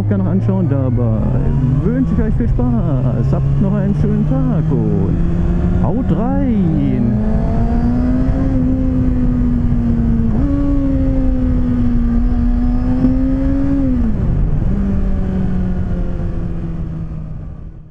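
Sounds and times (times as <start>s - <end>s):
motorcycle engine running: 0.0s - 17.7s.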